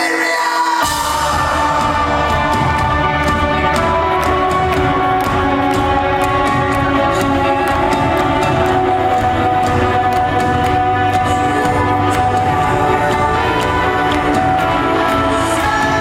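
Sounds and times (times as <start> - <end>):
guitar chords: 0.8 - 16.0
rock band playing: 0.8 - 16.0.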